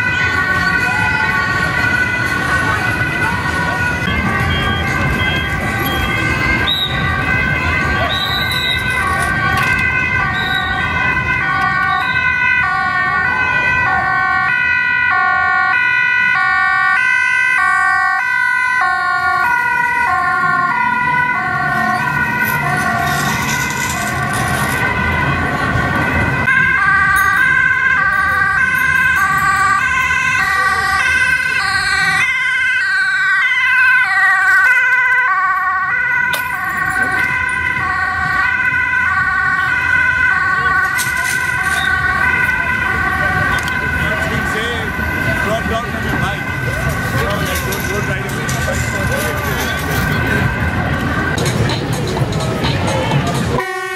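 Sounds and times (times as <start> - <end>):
ambulance two-tone siren: 0.0 - 53.9
traffic noise: 0.0 - 53.9.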